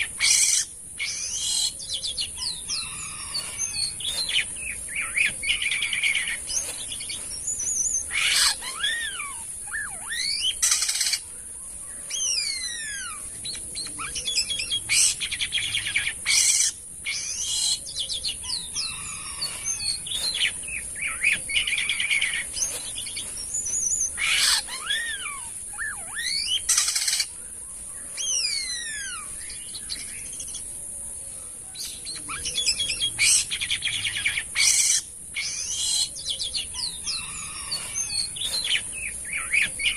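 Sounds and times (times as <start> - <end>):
starling singing: 0.0 - 11.3, 12.0 - 27.3, 28.1 - 30.6, 32.2 - 39.9
steady high-pitched hiss: 0.0 - 39.9.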